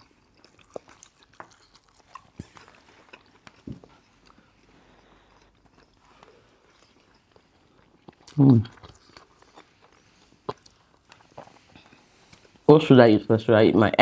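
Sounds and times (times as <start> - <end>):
chewing: 0.0 - 12.7.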